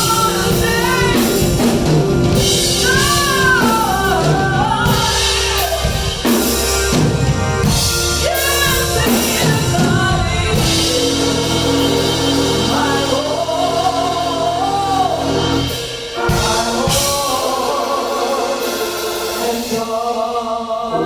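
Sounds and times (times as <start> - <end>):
drums: 0.0 - 20.7
keyboard: 0.0 - 21.0
solo voice singing gospel: 0.0 - 21.0.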